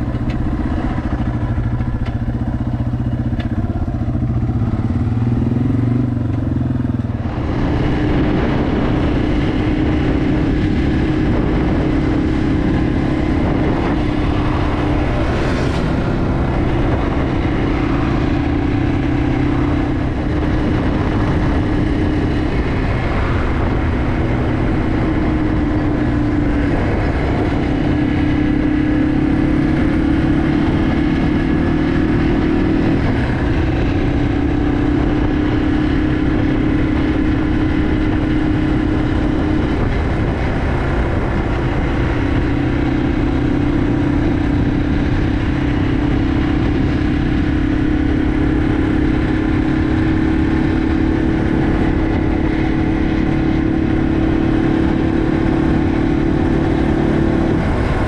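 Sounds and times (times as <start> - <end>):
motorcycle engine cruising: 0.0 - 58.0
rushing wind noise: 0.0 - 58.0.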